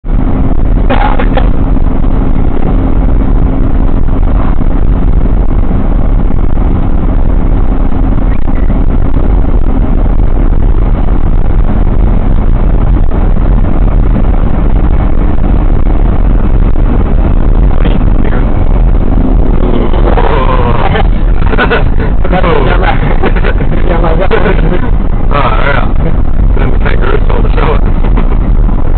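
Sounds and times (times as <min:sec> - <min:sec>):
car road and engine rumble: 0:00.0 - 0:28.9.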